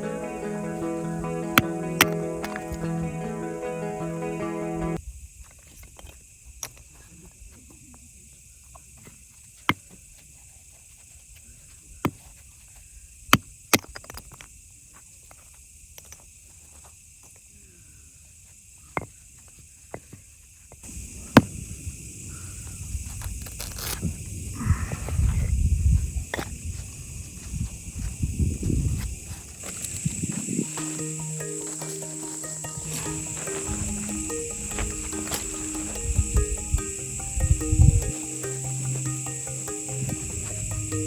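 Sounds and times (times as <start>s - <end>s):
faint steady hiss: 0.0s - 9.6s, 14.5s - 41.0s.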